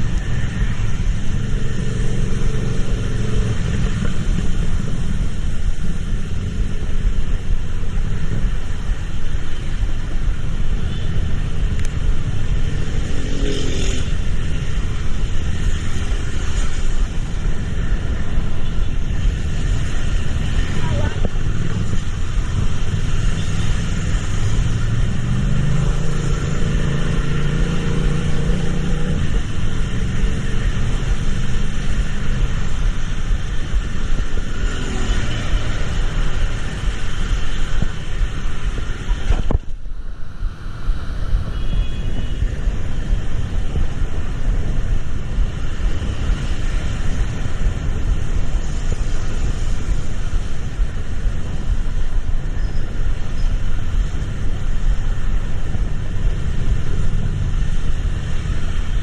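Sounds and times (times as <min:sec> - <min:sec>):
vehicle rumble and road noise: 0:00.0 - 0:59.0.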